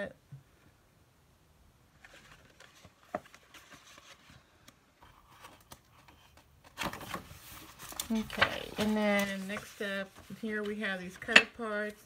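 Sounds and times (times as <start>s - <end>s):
paper rustling and tapping: 2.0s - 12.0s.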